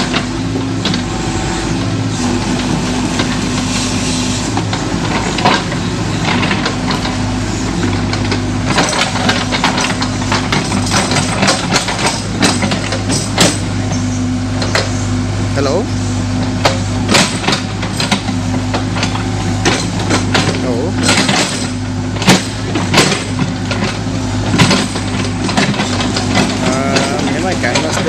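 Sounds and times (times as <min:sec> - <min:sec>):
excavator bucket knocking and scraping: 0:00.0 - 0:15.0, 0:16.4 - 0:28.0
excavator diesel engine running: 0:00.0 - 0:28.0.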